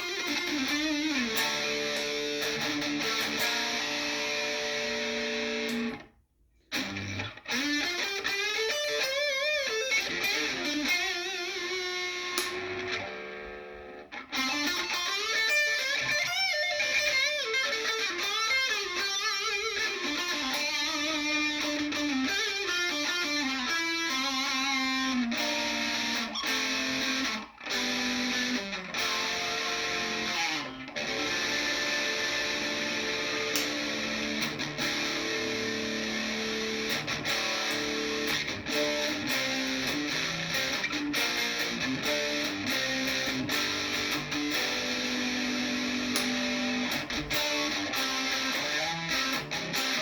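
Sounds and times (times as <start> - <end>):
electric guitar through amplifier: 0.0 - 50.0.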